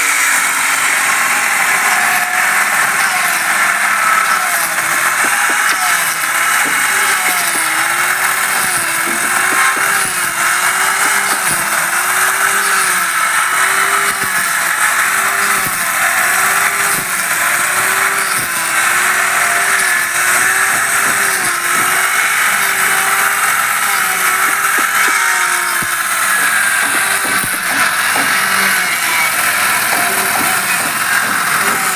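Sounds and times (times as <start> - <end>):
circular saw cutting wood: 0.0 - 31.9.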